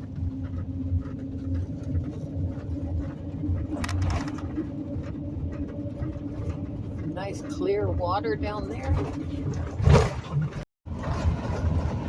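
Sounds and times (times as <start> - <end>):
car engine and tyre drone: 0.0 - 12.0.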